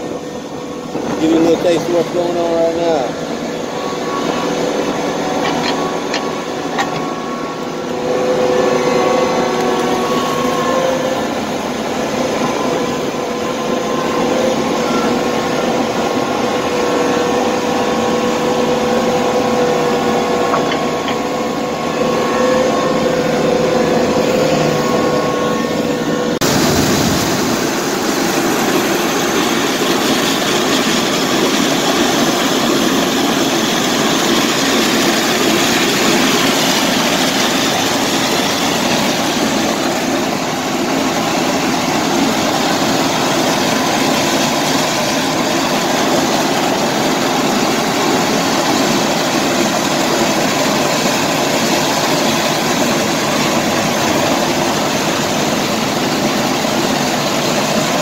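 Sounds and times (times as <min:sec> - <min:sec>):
surface grinder grinding asphalt: 0:00.0 - 0:58.0.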